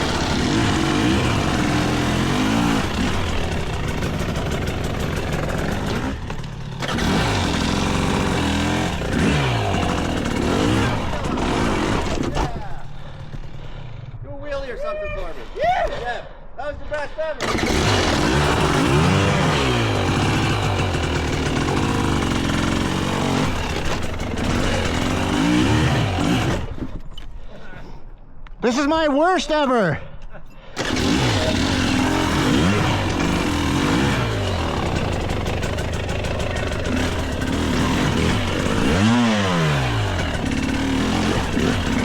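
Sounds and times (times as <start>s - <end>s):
dirt bike engine revving: 0.0s - 14.1s, 17.4s - 26.9s, 30.8s - 42.0s.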